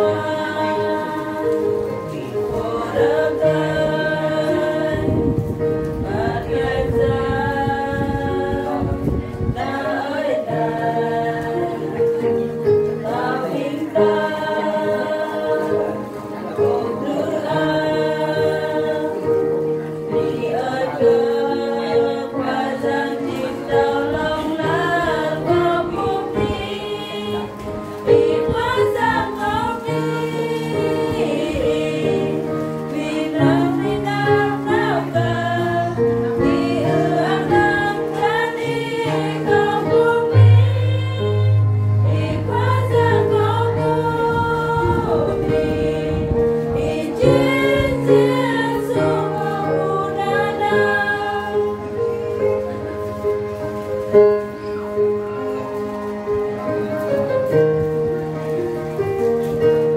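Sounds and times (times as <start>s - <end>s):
women's choir singing a hymn: 0.0s - 59.9s.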